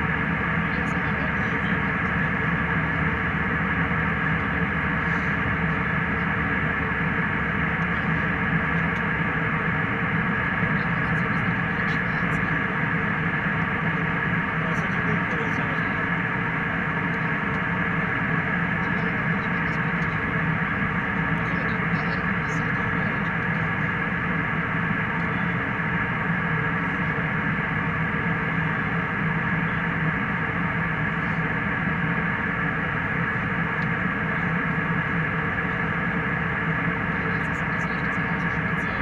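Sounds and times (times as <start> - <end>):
jet airliner cabin hum: 0.0 - 39.0.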